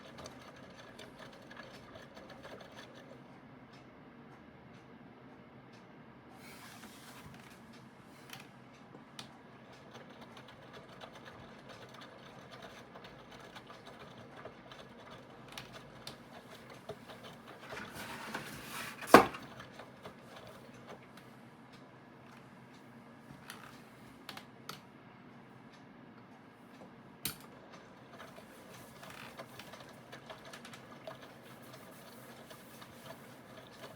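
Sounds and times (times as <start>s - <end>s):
washing machine motor hum: 0.0s - 5.3s, 6.1s - 33.9s.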